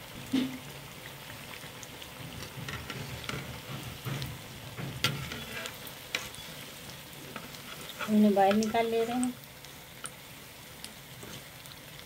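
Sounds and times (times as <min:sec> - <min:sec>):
deep-frying sizzling crackle: 0:00.0 - 0:12.0.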